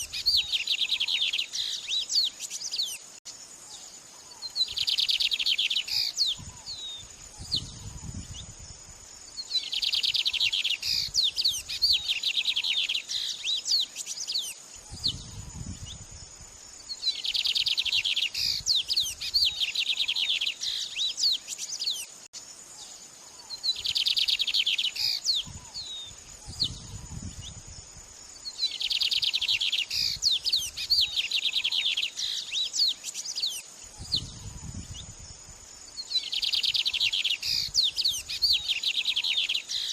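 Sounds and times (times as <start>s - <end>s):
songbird singing trills and whistles: 0.0s - 3.3s, 4.3s - 16.2s, 16.8s - 22.4s, 23.3s - 39.9s
high insect-like whine: 0.0s - 39.9s.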